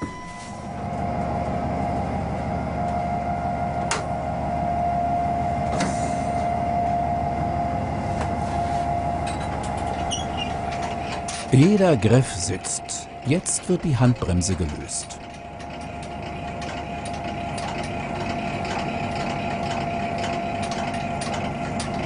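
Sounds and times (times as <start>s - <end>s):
locomotive machinery humming: 0.0s - 22.0s.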